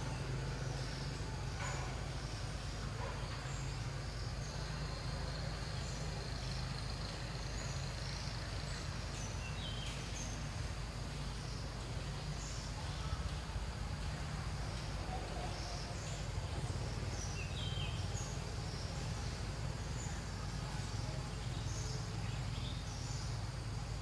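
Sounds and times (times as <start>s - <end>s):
low rumble and hiss: 0.0s - 24.0s.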